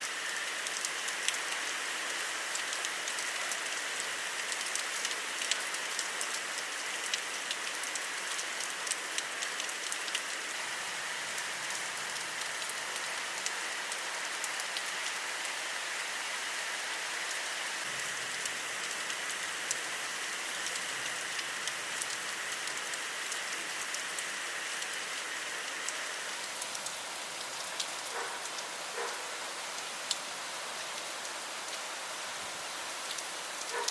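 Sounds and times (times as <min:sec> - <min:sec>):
rain falling: 0:00.0 - 0:33.9
raindrops ticking on surfaces: 0:00.0 - 0:33.9.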